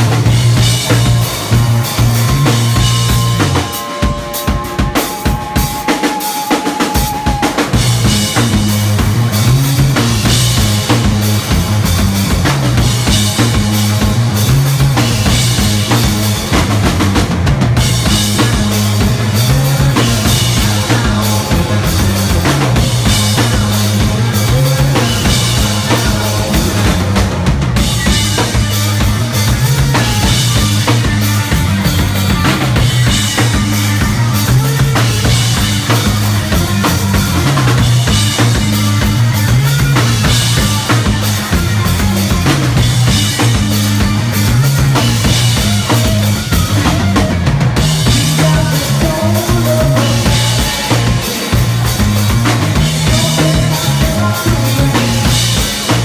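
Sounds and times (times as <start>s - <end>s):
drum kit kick and snare: 0.0s - 56.0s
electric guitar: 0.0s - 56.0s
live rock band playing: 0.0s - 56.0s.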